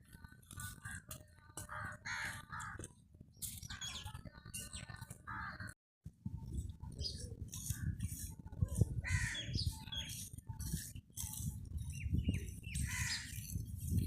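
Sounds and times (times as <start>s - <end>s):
birds calling: 0.1s - 5.8s, 6.9s - 14.0s.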